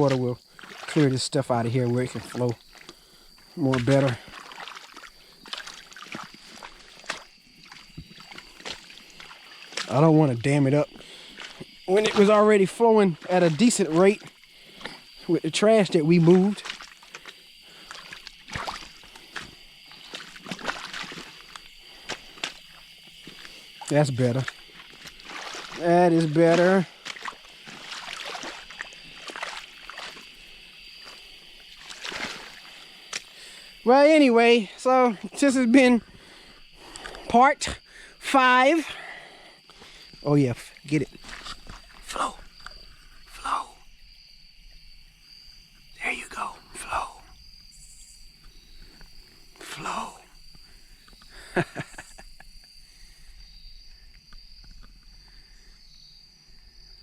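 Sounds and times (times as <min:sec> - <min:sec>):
creek water sloshing and splashing: 0:00.0 - 0:44.0, 0:44.9 - 0:53.2
crickets trilling: 0:00.0 - 0:57.0.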